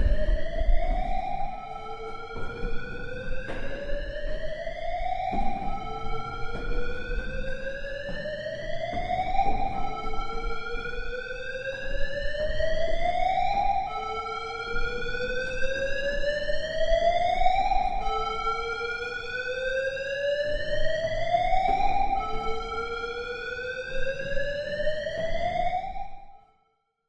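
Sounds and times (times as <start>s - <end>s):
warning siren whooping: 0.0s - 26.4s.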